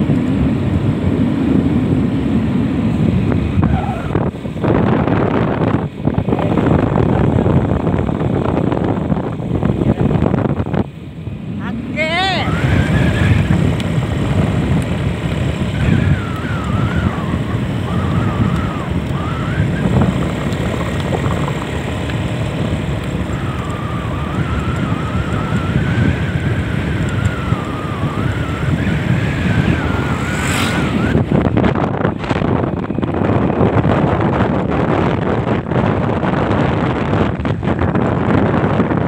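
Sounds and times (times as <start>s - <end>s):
motorcycle engine whine: 0.0s - 39.0s
wind buffeting microphone: 0.0s - 39.0s.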